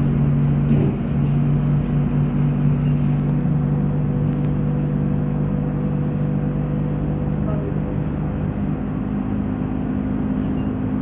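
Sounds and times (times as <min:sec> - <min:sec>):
road and tyre rumble: 0:00.0 - 0:11.0.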